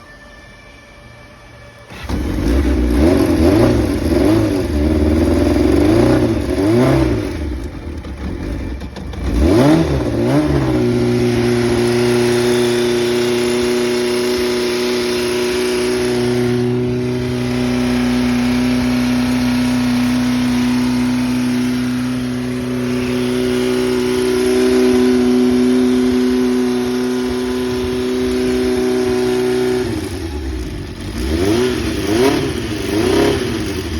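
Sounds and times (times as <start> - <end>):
motorcycle engine revving and idling: 1.9 - 33.9.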